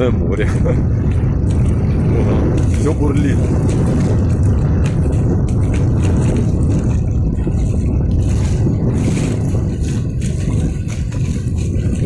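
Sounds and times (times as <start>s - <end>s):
water rushing in current: 0.0s - 12.0s
faint splashing: 0.6s - 12.0s.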